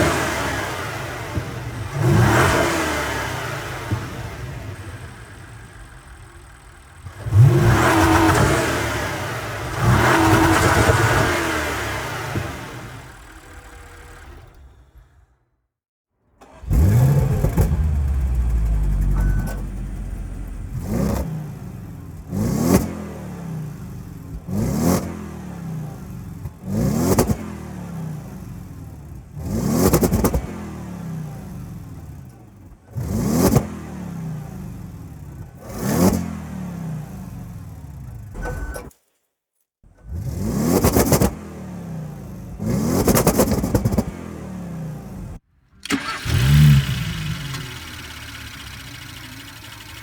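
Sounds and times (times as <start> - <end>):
car engine idling and revving: 0.0 - 15.5, 16.4 - 38.9, 39.9 - 50.0.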